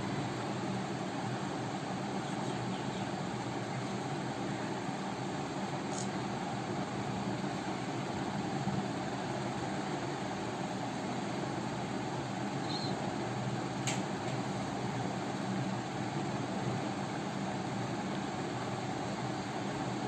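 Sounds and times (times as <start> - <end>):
appliance humming: 0.0 - 20.0.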